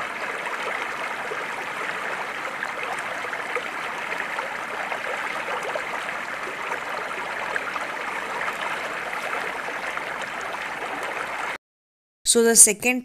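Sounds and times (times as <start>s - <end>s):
water flowing: 0.0s - 11.6s.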